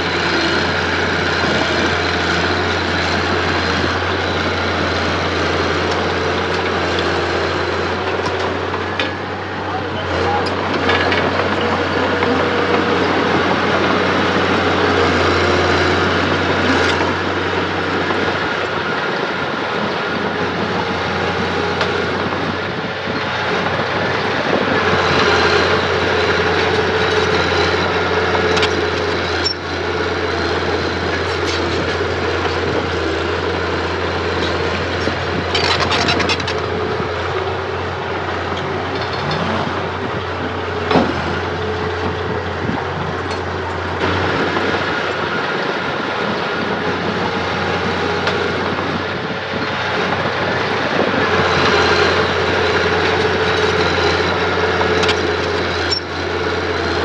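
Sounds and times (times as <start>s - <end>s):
earthmoving machine engine drone: 0.0s - 57.0s.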